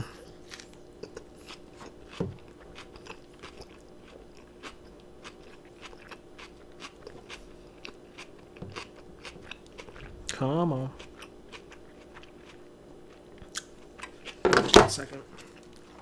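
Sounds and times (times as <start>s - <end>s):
faint steady hum: 0.0s - 16.0s
person chewing with wet smacks: 0.4s - 14.4s.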